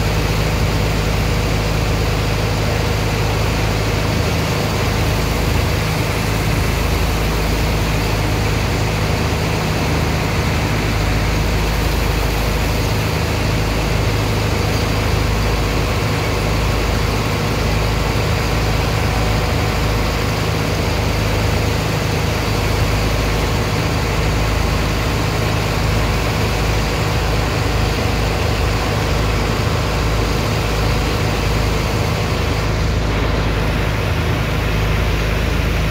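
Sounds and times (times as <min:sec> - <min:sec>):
high-pressure water jet splashing: 0:00.0 - 0:35.9
pump engine humming: 0:00.0 - 0:35.9.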